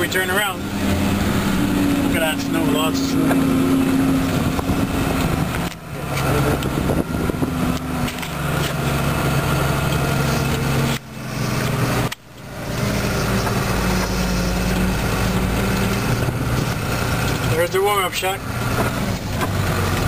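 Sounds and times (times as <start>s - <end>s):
snow groomer engine running: 0.0s - 20.0s.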